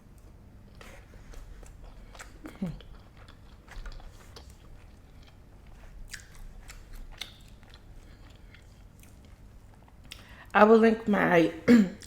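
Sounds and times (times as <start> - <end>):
person chewing food: 0.0 - 10.5.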